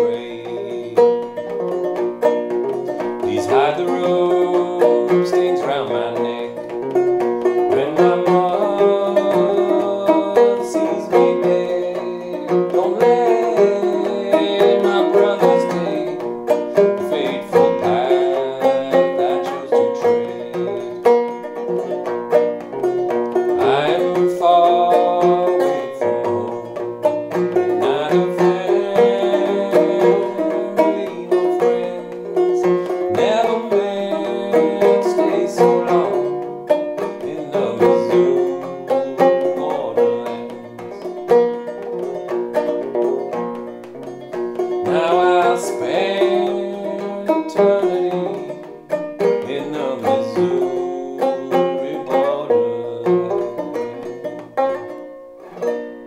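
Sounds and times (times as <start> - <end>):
banjo playing: 0.0 - 56.0.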